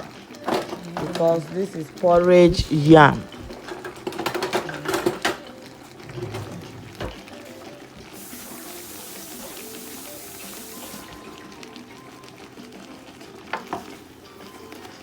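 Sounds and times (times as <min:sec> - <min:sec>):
water pouring into pot: 0:00.0 - 0:15.0.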